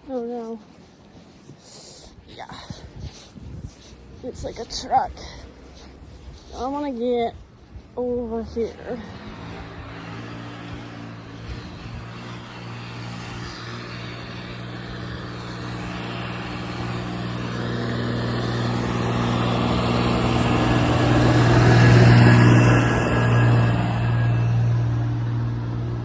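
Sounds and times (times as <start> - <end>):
truck engine hum: 4.0 - 26.0.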